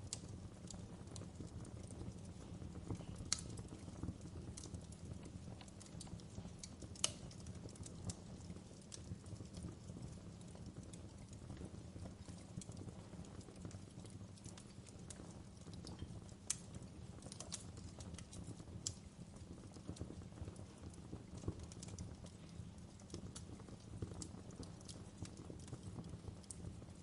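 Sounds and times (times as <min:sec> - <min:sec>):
low rumble of burning fire: 0:00.0 - 0:27.0
wood fire crackling and popping: 0:00.0 - 0:27.0.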